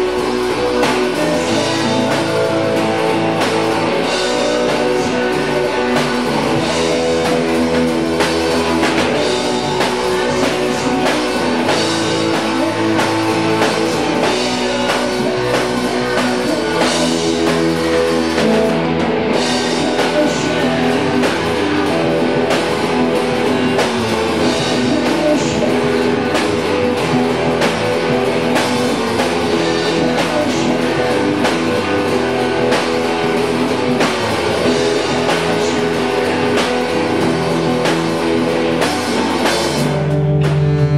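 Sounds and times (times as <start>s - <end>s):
band playing blues-rock: 0.0s - 40.9s.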